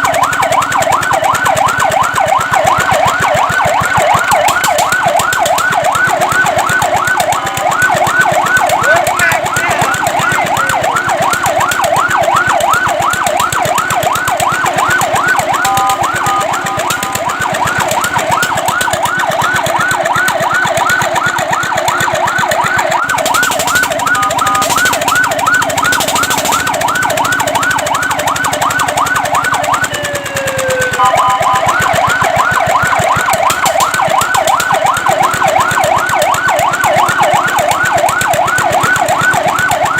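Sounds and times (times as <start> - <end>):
electronic siren yelping: 0.0 - 39.9
steady multi-tone siren: 0.0 - 39.9.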